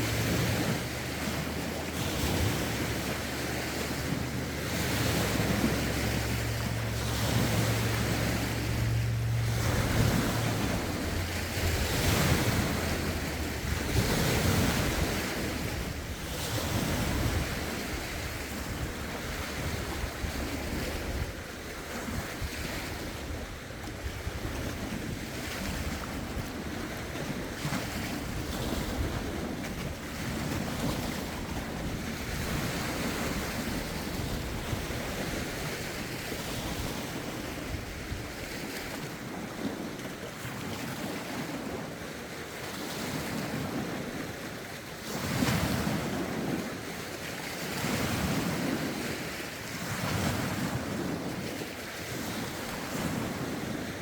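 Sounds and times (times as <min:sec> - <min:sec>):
waves lapping against shore: 0:00.0 - 0:54.0
wind buffeting microphone: 0:00.0 - 0:54.0.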